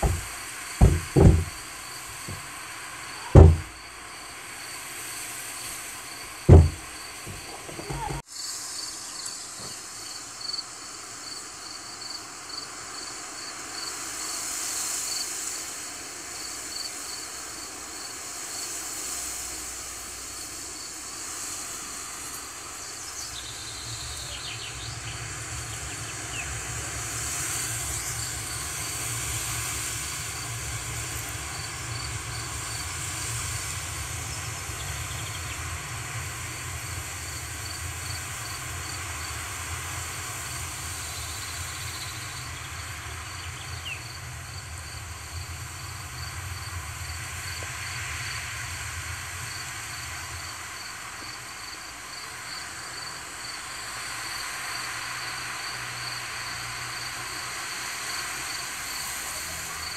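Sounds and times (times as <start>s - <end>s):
wind hissing through grass: 0.0s - 59.9s.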